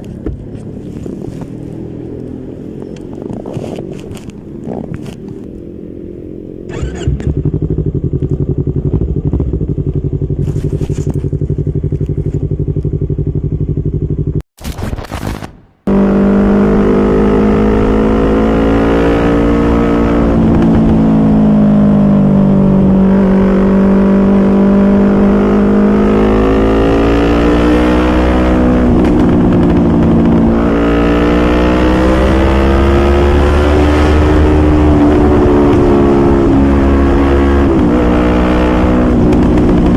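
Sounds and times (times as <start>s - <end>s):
motorcycle engine running: 0.0s - 14.4s, 15.9s - 39.9s.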